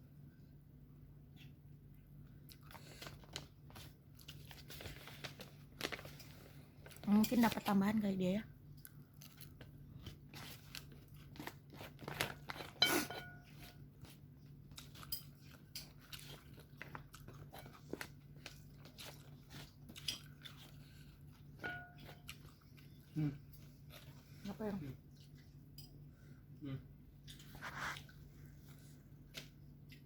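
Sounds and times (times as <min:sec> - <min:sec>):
low steady hum: 0:00.0 - 0:30.0
crunching and chewing food: 0:02.2 - 0:30.0.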